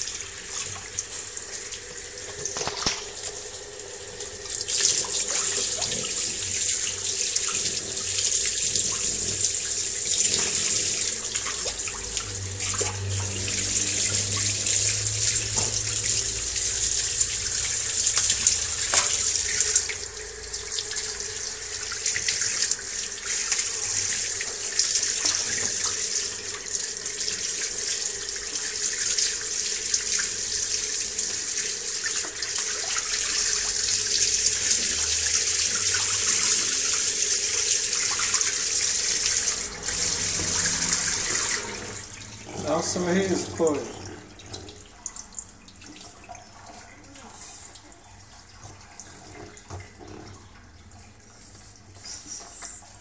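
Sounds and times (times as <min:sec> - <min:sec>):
tap water running: 0:00.0 - 0:53.0.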